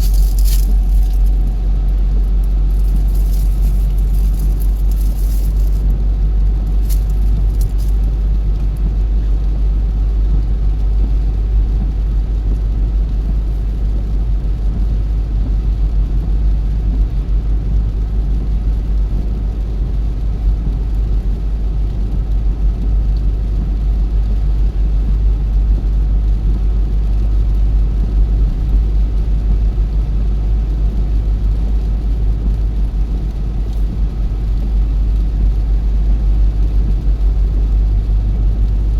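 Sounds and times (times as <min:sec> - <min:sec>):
car driving road rumble: 0:00.0 - 0:38.9.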